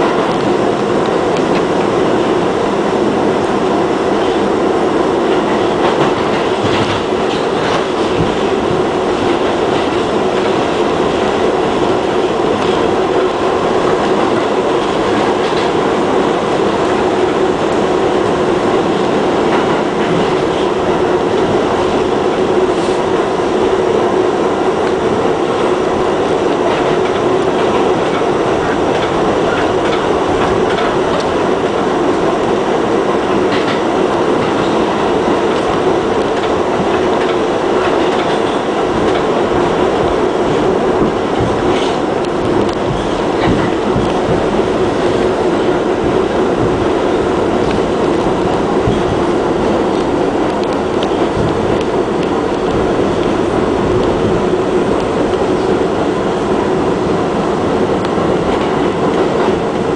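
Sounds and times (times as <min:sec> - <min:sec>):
subway car wheels rumbling: 0:00.0 - 0:59.9.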